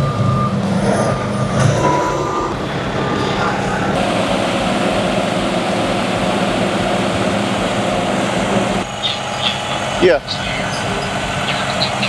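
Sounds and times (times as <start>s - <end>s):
faint high chirps: 0.0s - 12.0s
truck engine and road drone: 0.0s - 12.0s.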